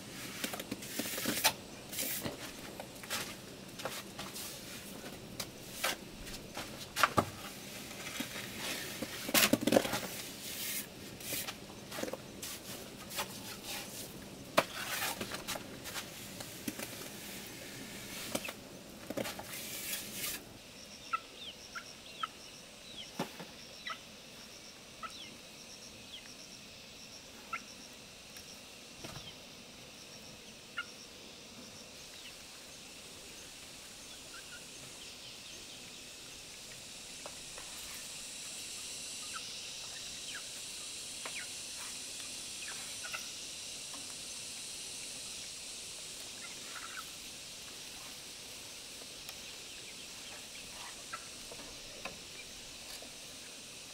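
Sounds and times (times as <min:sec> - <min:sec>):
high insect buzz: 0:00.0 - 0:53.9.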